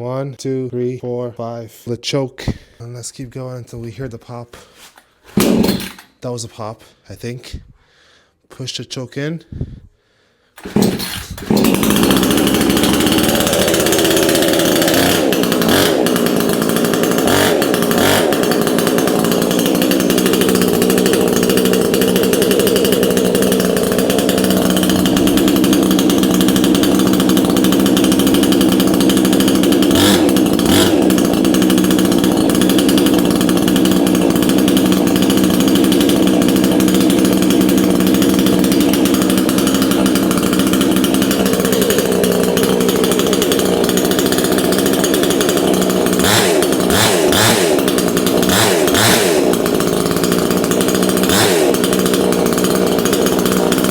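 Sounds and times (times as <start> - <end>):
two-stroke chainsaw engine running: 5.3 - 6.2, 10.6 - 53.9.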